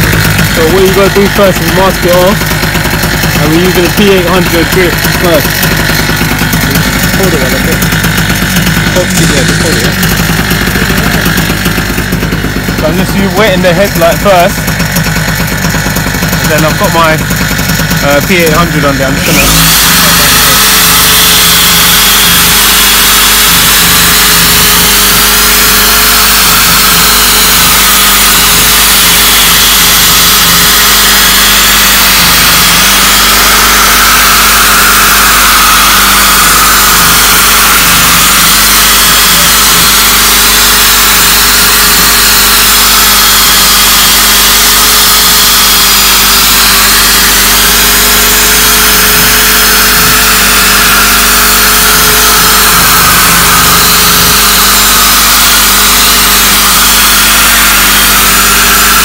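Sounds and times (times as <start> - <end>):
electric drill sanding whine: 0.0 - 59.0.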